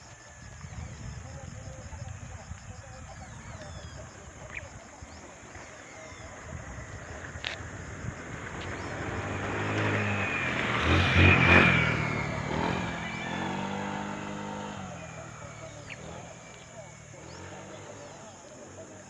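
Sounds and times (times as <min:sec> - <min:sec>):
motor vehicle passing by: 0:00.1 - 0:19.0.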